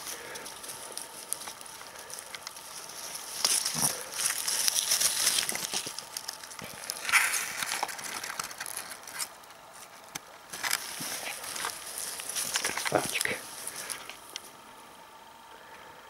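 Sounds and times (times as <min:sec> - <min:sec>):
dry grass rustling: 0:00.0 - 0:15.1.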